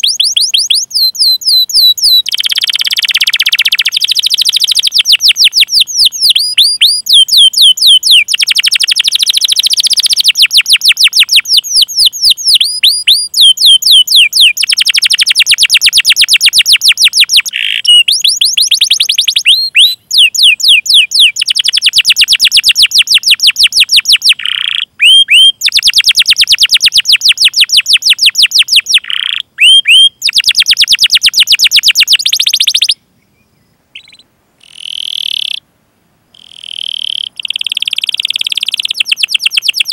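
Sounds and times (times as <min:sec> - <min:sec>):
canary singing trills: 0:00.0 - 0:35.6, 0:36.4 - 0:39.9
bird chirping calls: 0:00.0 - 0:35.7, 0:36.3 - 0:39.9.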